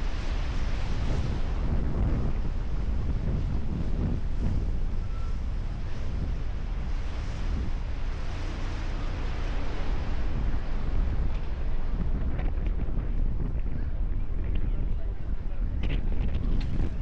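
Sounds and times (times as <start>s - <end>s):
low boat rumble: 0.0s - 17.0s
wind buffeting microphone: 0.0s - 17.0s.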